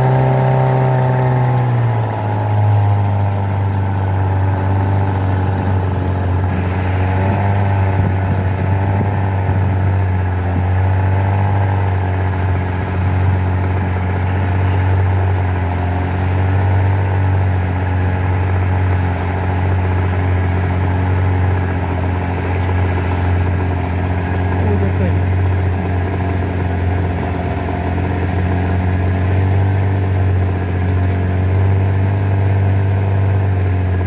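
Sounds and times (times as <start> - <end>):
outboard motor humming: 0.0 - 34.0.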